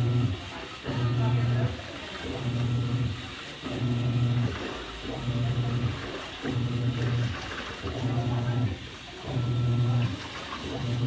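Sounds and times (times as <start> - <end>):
washing machine motor churning: 0.0 - 11.0.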